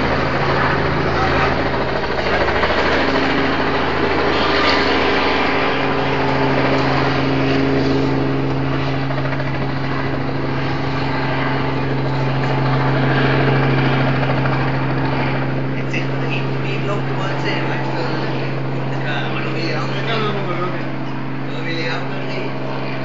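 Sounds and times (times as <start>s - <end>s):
helicopter rotor and engine drone: 0.0s - 23.0s.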